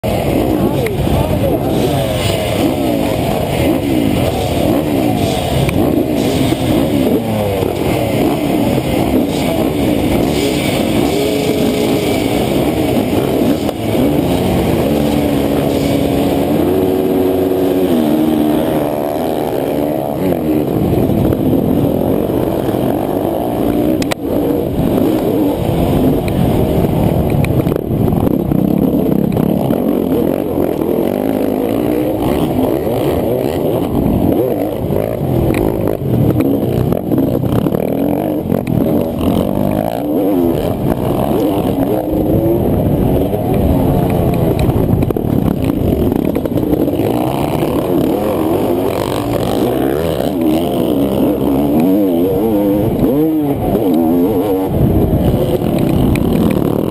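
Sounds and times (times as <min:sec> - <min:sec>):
dirt bikes racing at full throttle: 0:00.0 - 0:56.9
dirt bikes revving: 0:00.0 - 0:56.9.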